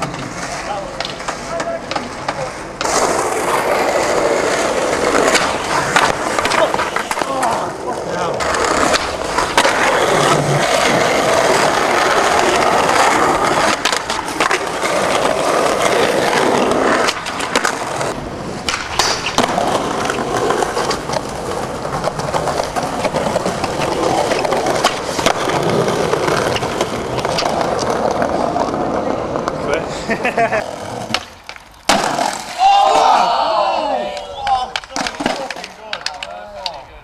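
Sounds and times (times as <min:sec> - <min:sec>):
skateboard popping and landing: 0:00.0 - 0:33.0, 0:34.1 - 0:36.9
skateboard wheels rolling on concrete: 0:00.0 - 0:37.0.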